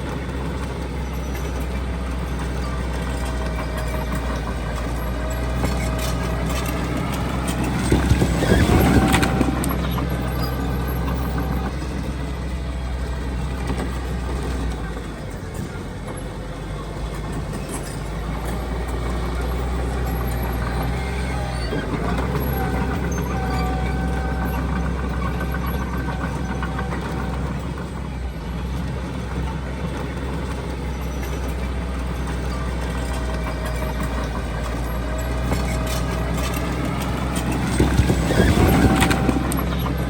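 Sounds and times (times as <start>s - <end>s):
heavy diesel machinery running: 0.0s - 40.0s
knocks and rumbling: 0.0s - 40.0s.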